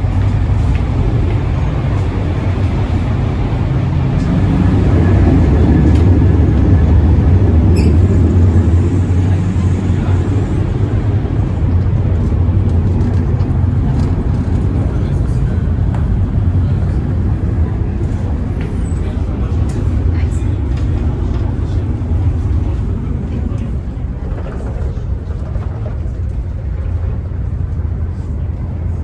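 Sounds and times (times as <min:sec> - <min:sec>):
moving vehicle rumble: 0:00.0 - 0:29.0.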